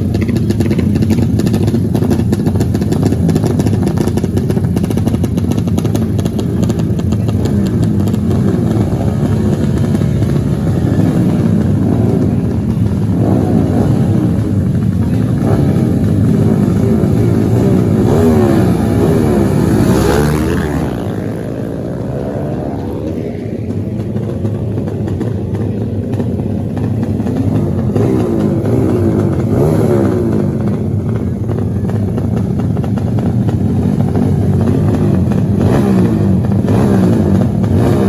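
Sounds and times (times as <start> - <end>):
racing motorcycle engines revving: 0.0 - 38.0.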